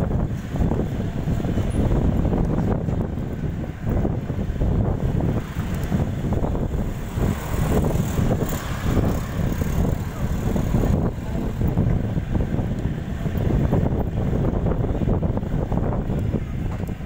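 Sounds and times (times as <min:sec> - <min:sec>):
vehicle road noise: 0:00.0 - 0:17.0
wind buffeting microphone: 0:00.0 - 0:17.0.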